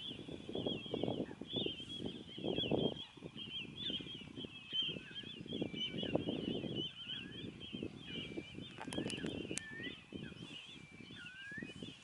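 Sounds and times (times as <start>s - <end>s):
birds chirping: 0.0s - 12.0s
rough low bird calls: 0.0s - 12.0s.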